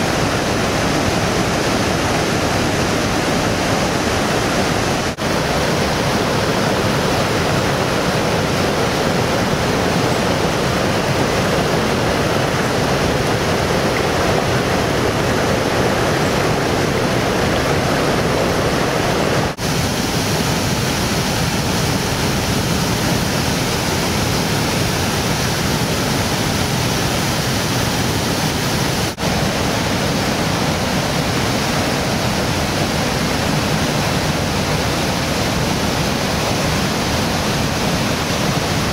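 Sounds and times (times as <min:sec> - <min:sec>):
river rapids and waterfall rushing: 0:00.0 - 0:38.9.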